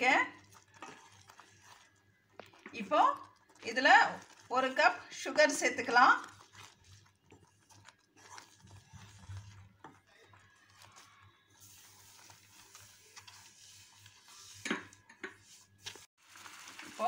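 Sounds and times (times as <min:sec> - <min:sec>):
wooden spatula stirring in a pan: 0:00.0 - 0:17.0.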